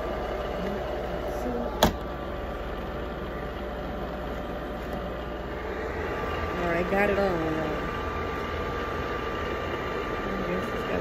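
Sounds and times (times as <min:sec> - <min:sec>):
bonnet hair dryer running: 0:00.0 - 0:11.0.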